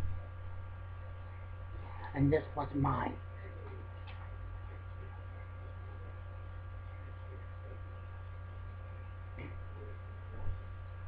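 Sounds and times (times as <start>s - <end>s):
electrical mains hum: 0.0s - 11.0s
faint whine tones: 0.0s - 11.0s.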